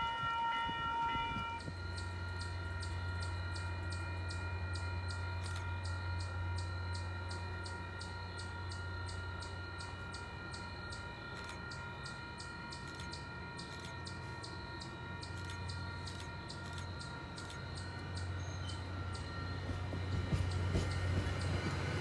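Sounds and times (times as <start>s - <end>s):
crossing bell ringing: 0.0s - 22.0s
train low hum: 0.0s - 22.0s.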